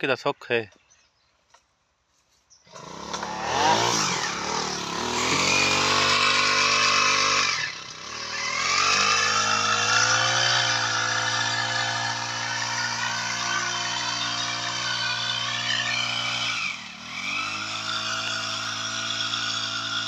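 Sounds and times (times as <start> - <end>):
two-stroke sprayer engine revving: 2.7 - 20.0.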